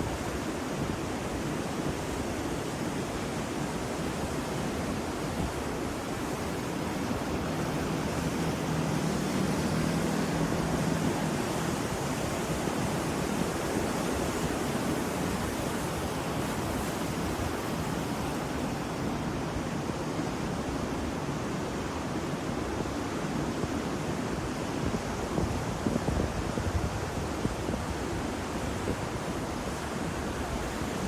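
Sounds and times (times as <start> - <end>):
ocean waves washing in: 0.0 - 31.0.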